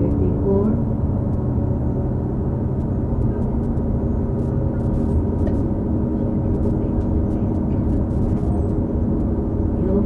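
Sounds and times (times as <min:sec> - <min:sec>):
bus drivetrain droning: 0:00.0 - 0:10.0.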